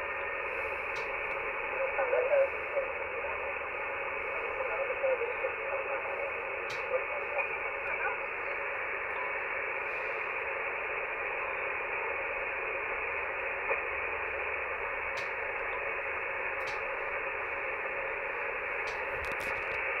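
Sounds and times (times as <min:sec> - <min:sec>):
radio band hiss: 0:00.0 - 0:20.0.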